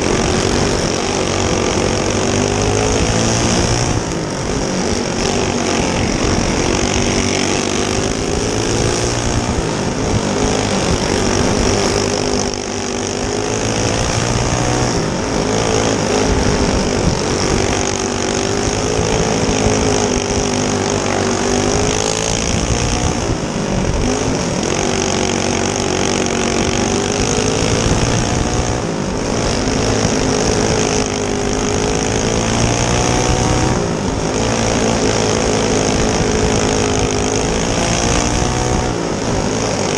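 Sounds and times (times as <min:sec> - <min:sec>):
go-kart engines racing: 0:00.0 - 0:39.9.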